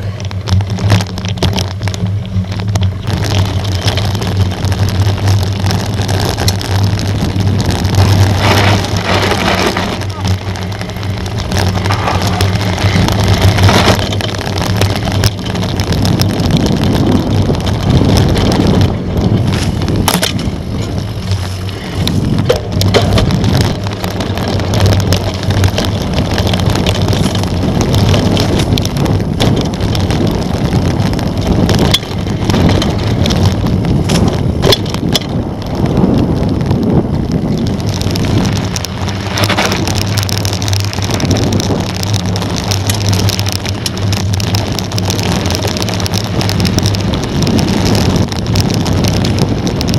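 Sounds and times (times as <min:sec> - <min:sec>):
bike rattling: 0:00.0 - 0:49.9
bike tyres crunching on gravel: 0:00.0 - 0:49.9
wind on microphone: 0:00.0 - 0:49.9.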